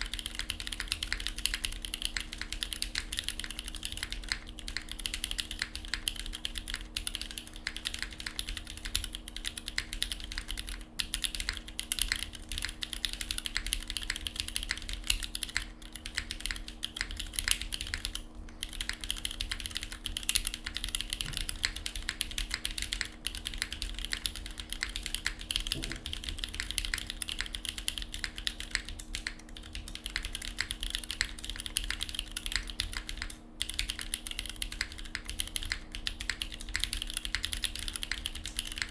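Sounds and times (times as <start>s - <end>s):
faint steady hum: 0.0s - 38.9s
fast mechanical keyboard typing: 0.0s - 38.9s.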